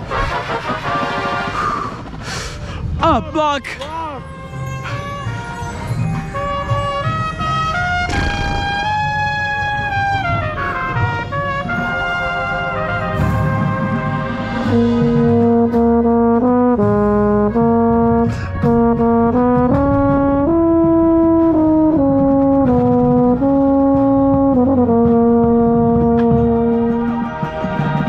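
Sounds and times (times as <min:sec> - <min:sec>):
euphonium melody: 0:03.6 - 0:27.7.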